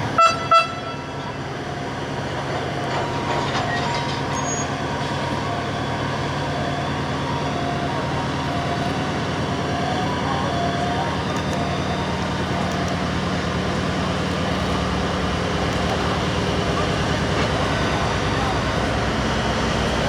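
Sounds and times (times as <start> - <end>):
locomotive low hum: 0.0 - 20.0.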